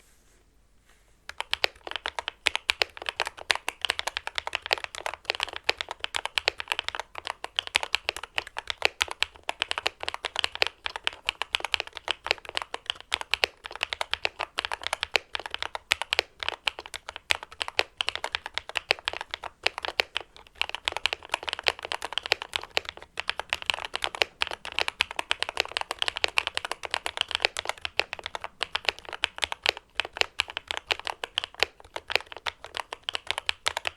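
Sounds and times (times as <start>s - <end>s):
mechanical keyboard typing: 1.3s - 33.9s.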